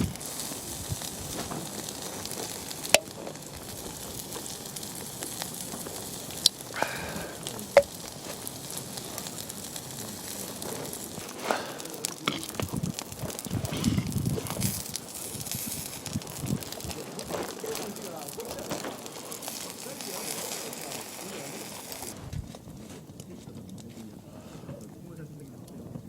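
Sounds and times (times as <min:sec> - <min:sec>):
campfire hissing and crackling: 0:00.0 - 0:26.0
campfire popping: 0:00.0 - 0:26.0.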